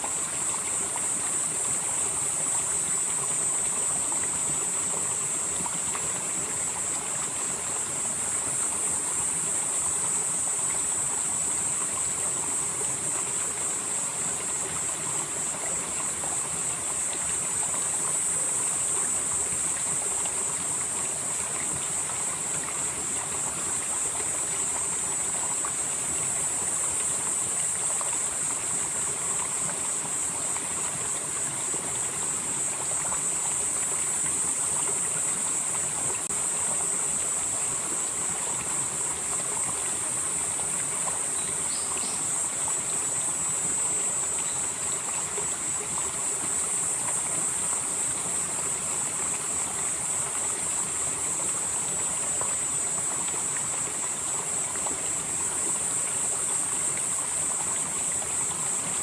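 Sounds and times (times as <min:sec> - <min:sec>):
stream flowing over rocks: 0:00.0 - 0:59.0
high-pitched insect chorus: 0:00.1 - 0:59.0.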